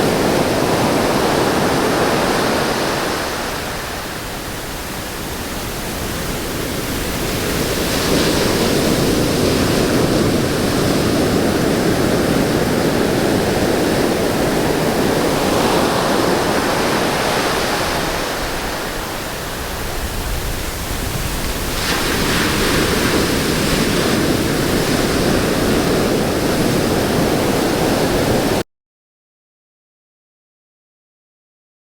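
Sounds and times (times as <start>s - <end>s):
ocean surf washing onto beach: 0.0s - 28.6s.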